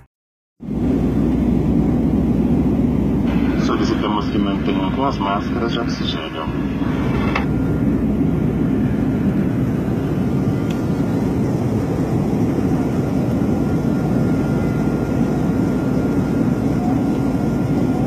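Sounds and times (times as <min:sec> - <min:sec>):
airliner cabin engine and airflow roar: 0:00.6 - 0:18.0.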